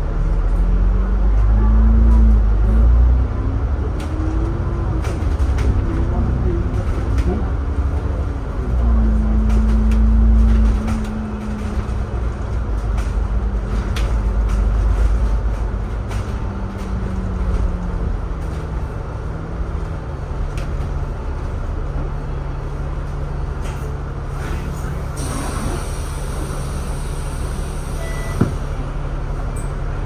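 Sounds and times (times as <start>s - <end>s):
bus engine rumble: 0.0s - 30.0s.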